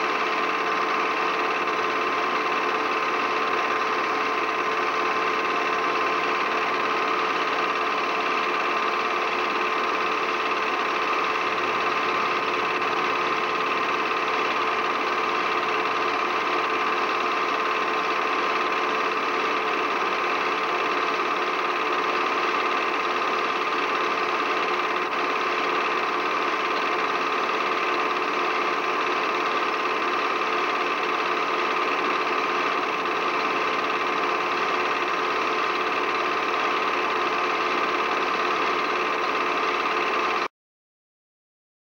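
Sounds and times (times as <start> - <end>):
film projector whirring and clattering: 0.0 - 40.5.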